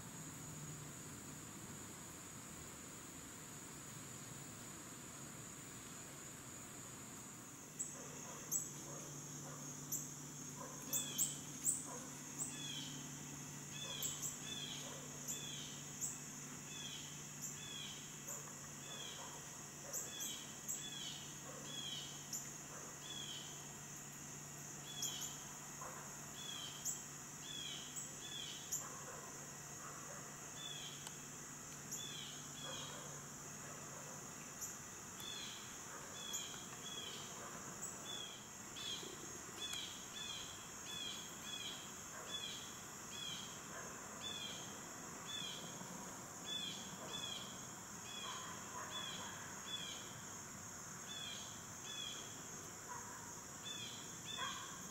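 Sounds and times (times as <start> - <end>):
high insect drone: 0.0 - 54.9.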